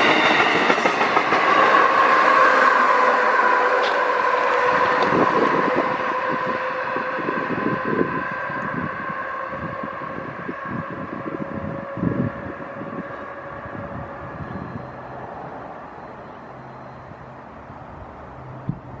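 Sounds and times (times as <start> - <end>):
electric train whine: 0.0 - 19.0
train wheels rumbling: 0.0 - 19.0.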